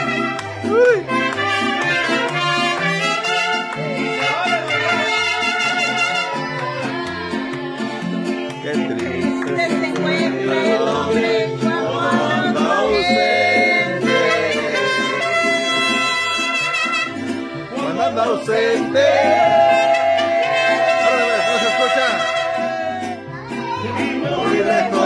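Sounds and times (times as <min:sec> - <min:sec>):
live latin band with trumpets: 0:00.0 - 0:11.9, 0:12.5 - 0:25.0
voices singing: 0:00.0 - 0:25.0.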